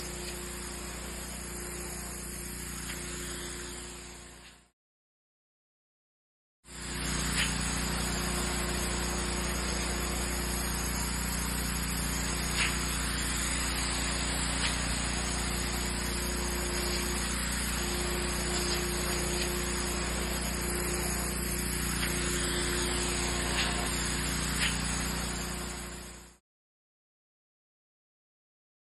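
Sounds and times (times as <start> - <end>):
water spray hissing: 0.0 - 4.2, 6.8 - 25.9
pressure washer motor hum: 0.0 - 4.7, 6.7 - 26.4.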